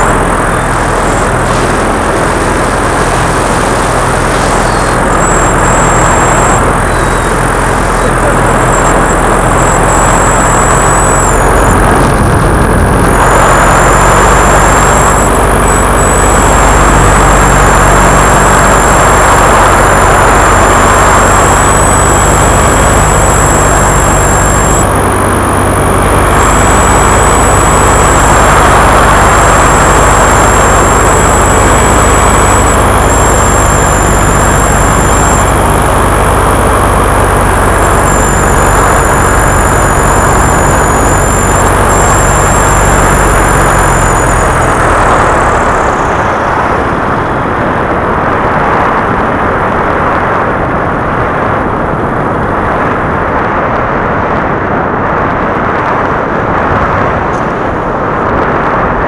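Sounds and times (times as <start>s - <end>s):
rushing air: 0.0s - 49.8s
paramotor engine and propeller: 0.0s - 59.0s.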